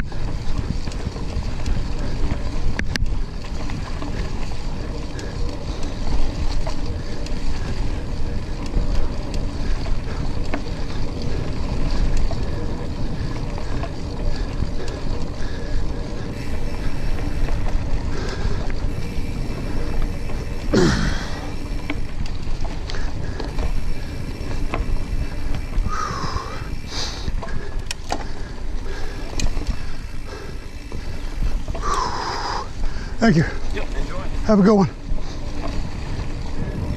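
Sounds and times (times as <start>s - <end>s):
bike tyres rolling on dirt: 0.0s - 36.9s
wind buffeting microphone: 0.0s - 36.9s.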